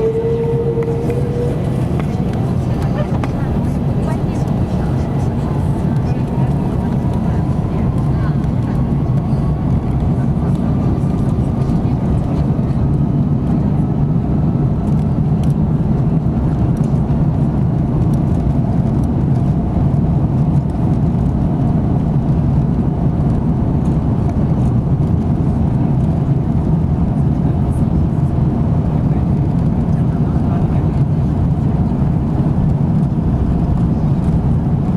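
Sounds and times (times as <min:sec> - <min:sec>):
low engine rumble in vehicle cabin: 0:00.0 - 0:34.9.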